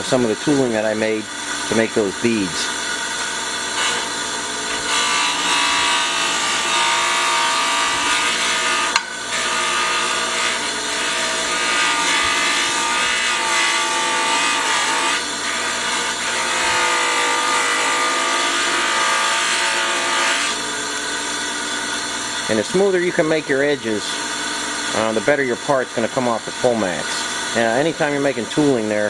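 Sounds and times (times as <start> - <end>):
grinding wheel on steel: 0.0 - 29.0.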